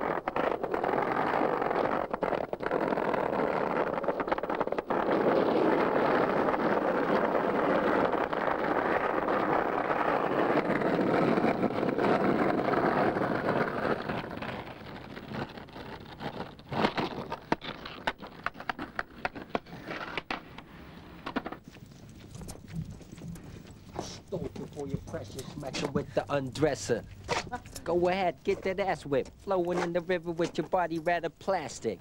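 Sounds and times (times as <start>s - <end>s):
skateboard clicks knocks and scrapes: 0.0s - 26.2s, 26.9s - 30.8s
skateboard wheels rolling on tarmac: 0.0s - 32.0s.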